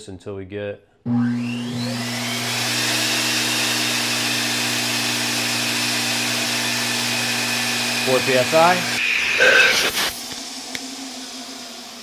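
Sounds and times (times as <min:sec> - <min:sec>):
turbine motor whining: 0:01.1 - 0:12.0.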